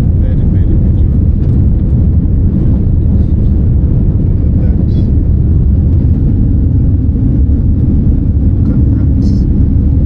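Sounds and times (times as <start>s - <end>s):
airliner engines rumbling: 0.0s - 10.0s
rushing air: 0.0s - 10.0s.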